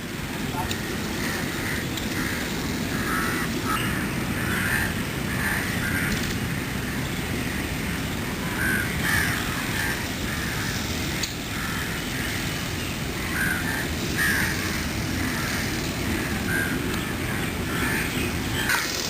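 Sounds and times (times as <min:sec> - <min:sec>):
crows cawing: 0:00.7 - 0:06.2, 0:08.4 - 0:12.4, 0:13.2 - 0:19.0.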